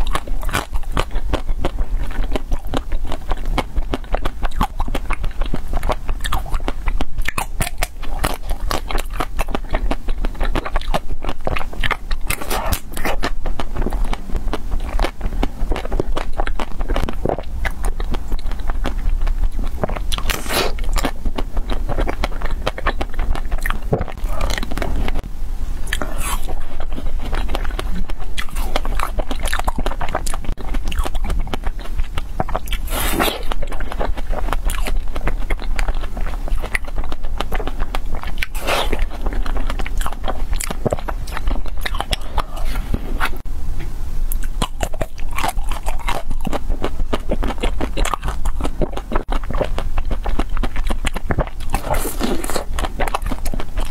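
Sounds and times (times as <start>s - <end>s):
ice cream bars crunching: 0.0s - 25.2s, 25.8s - 43.4s, 44.3s - 53.9s
wet chewing: 0.0s - 43.5s, 44.3s - 53.9s.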